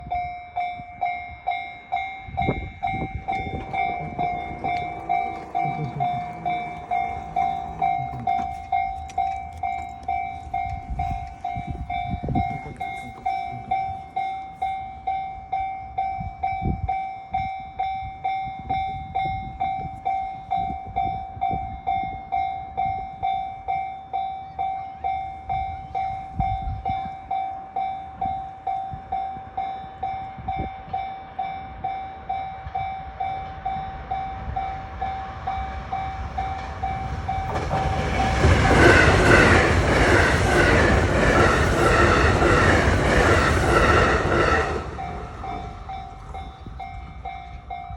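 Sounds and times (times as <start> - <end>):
electric train rumbling: 0.0 - 47.9
level crossing alarm bell: 0.0 - 47.9.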